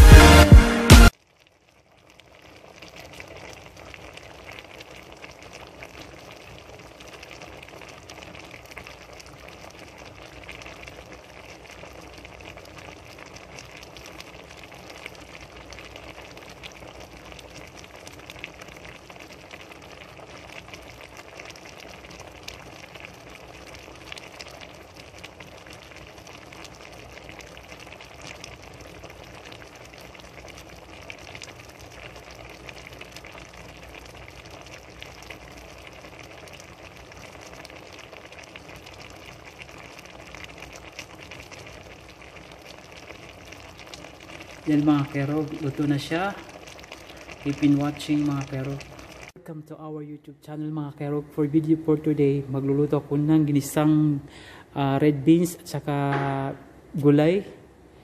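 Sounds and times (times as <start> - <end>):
broth bubbling with small pops: 1.2 - 49.4.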